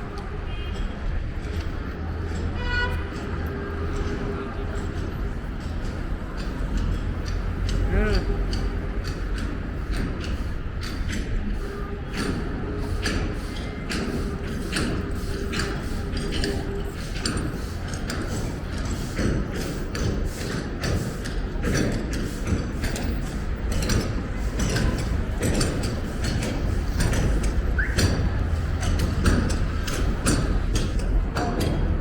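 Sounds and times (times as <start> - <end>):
footsteps on pavement: 0.0 - 32.0
low street rumble: 0.0 - 32.0.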